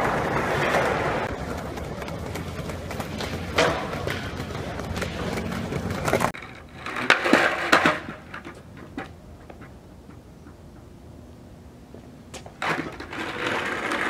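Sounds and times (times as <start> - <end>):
skateboard knocks and scrapes: 0.0 - 10.9, 12.4 - 14.0.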